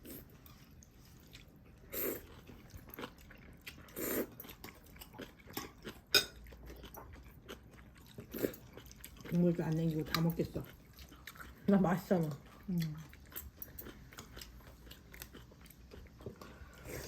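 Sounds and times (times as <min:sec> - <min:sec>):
chewing and mouth noises: 0:00.0 - 0:17.0.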